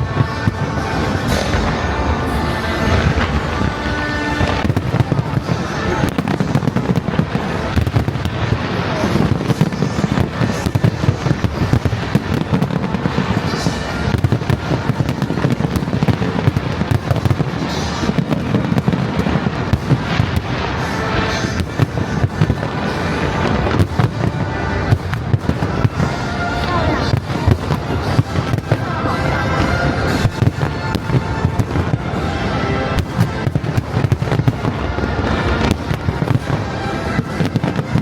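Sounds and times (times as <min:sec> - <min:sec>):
fireworks booming: 0:00.0 - 0:38.0
fireworks crackling: 0:00.0 - 0:38.0.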